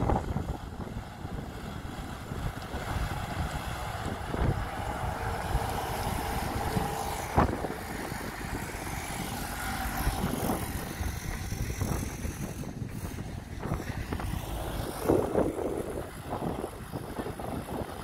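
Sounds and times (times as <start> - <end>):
trucks driving on road: 0.0 - 18.0.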